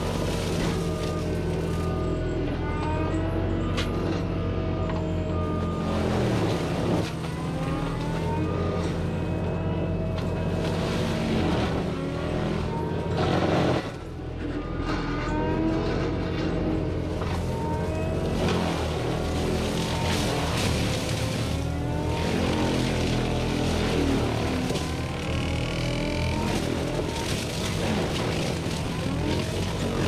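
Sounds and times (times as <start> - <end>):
diesel engine running hard: 0.0 - 30.0
forestry mulcher working: 0.0 - 30.0.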